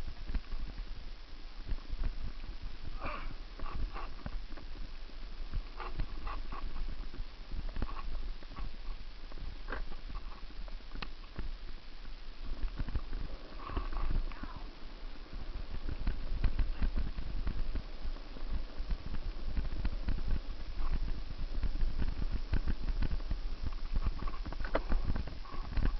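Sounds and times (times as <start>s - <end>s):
low rumble of wind: 0.0s - 25.9s
bike clattering on rough trail: 2.9s - 11.8s, 12.4s - 25.9s.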